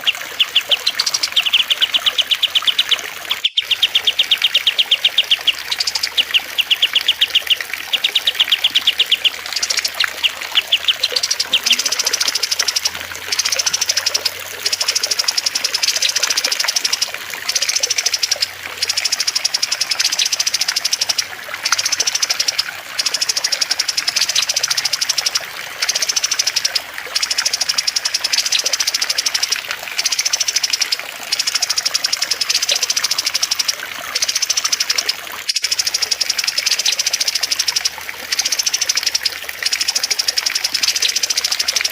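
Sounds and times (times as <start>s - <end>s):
small songbirds singing: 0.0s - 41.9s
water trickling: 0.0s - 41.9s.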